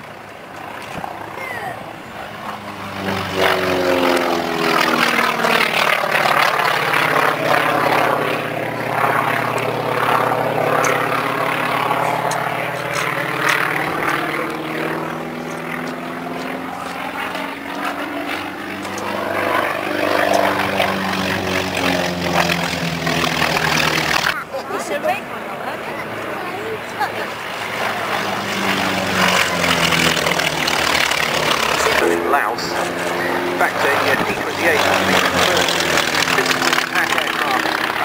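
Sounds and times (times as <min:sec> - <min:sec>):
propeller planes flying past: 0:00.0 - 0:38.0.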